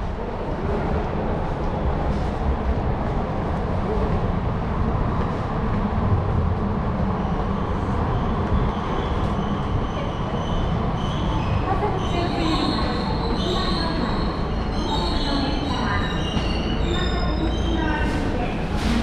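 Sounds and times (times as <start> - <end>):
train deep rumble: 0.0 - 19.0.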